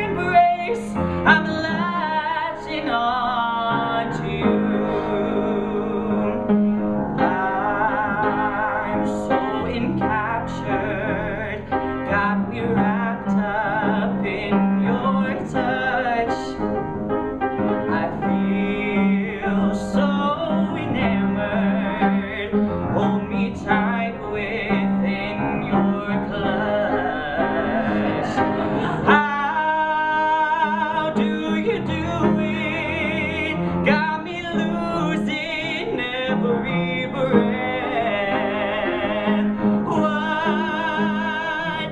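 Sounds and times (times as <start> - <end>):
man singing a ballad: 0.0 - 16.7, 17.6 - 41.9
piano: 0.0 - 41.9.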